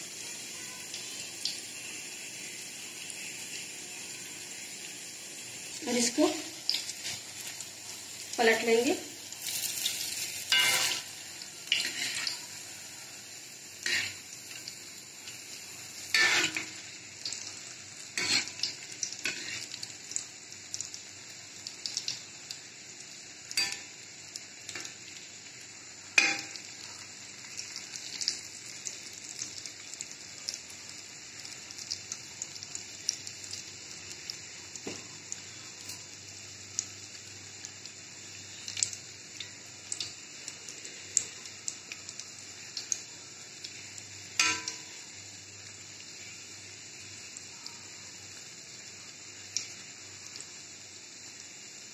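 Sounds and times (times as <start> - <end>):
food deep-frying in oil: 0.0 - 51.9.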